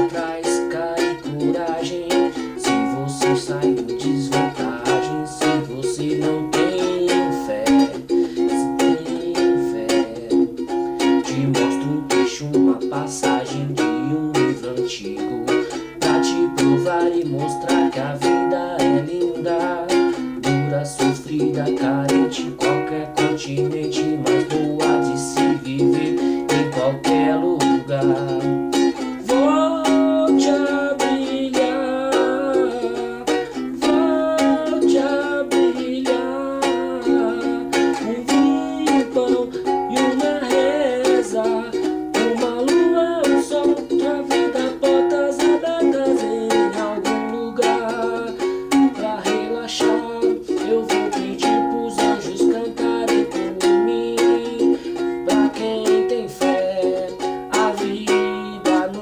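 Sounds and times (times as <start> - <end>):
man singing: 0.0 - 59.0
ukulele strumming: 0.0 - 59.0.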